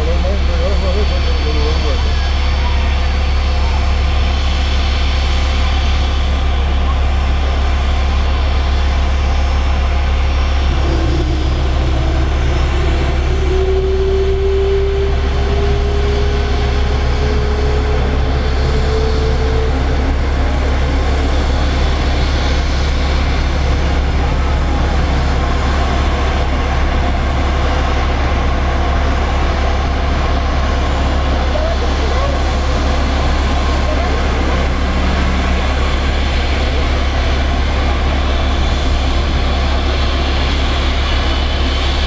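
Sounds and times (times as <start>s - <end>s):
jet engine whine rising: 0.0s - 42.0s
jet engines rumbling: 0.0s - 42.0s.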